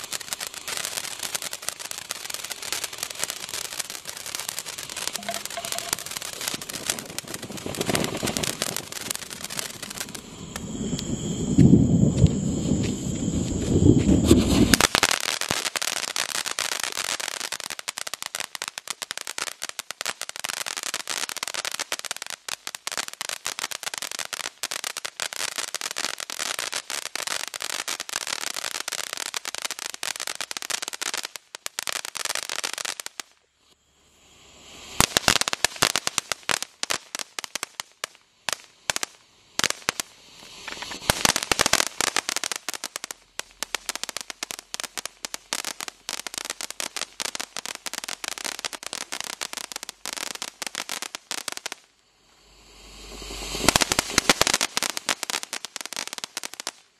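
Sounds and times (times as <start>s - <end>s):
firework fountain crackling: 0.0s - 56.9s.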